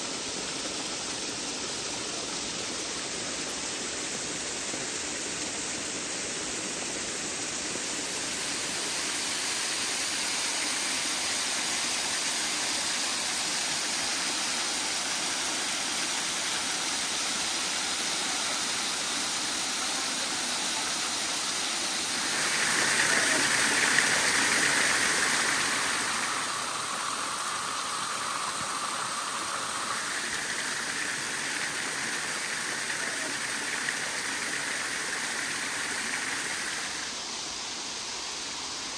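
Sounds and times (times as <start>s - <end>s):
small waterfall rushing: 0.0s - 38.9s.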